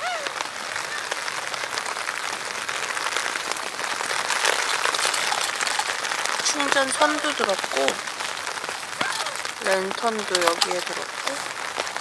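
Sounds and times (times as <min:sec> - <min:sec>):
rain pattering on tent: 0:00.0 - 0:12.0.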